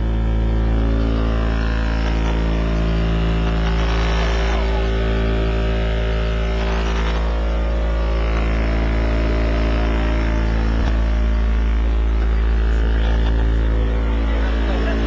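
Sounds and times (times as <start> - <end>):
subwoofer deep bass tone: 0.0 - 15.0.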